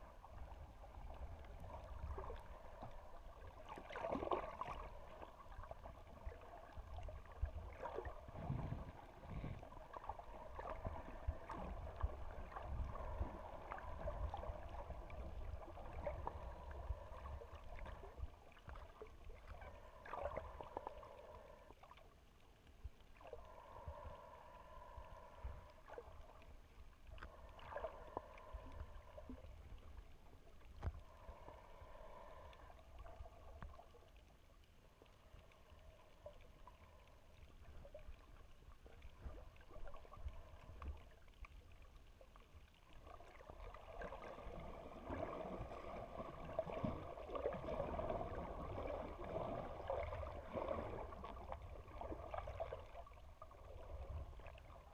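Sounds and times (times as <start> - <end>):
faint hum: 0.0 - 54.9
muffled underwater water rumble: 0.0 - 54.9.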